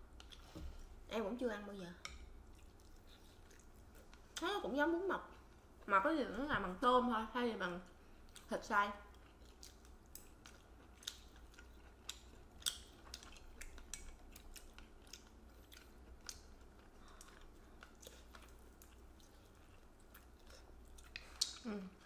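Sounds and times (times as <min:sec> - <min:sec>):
faint chewing: 0:00.0 - 0:01.0, 0:01.9 - 0:04.6, 0:07.8 - 0:22.0.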